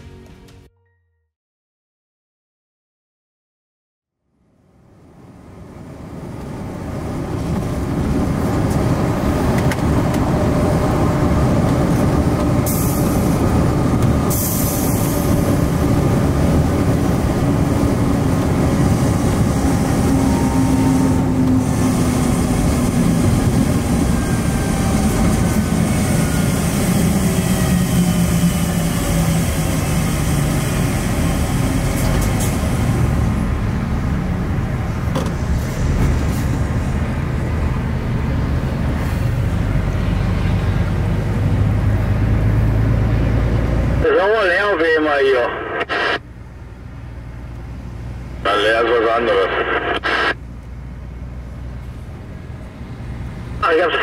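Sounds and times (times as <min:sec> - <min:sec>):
tyre and road noise: 0:05.7 - 0:53.9.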